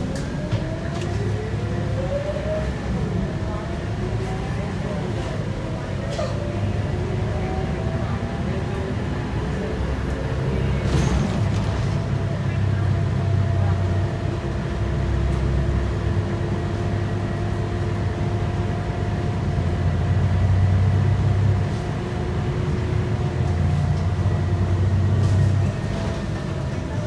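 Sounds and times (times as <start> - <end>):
bus diesel engine rumbling: 0.0 - 27.0.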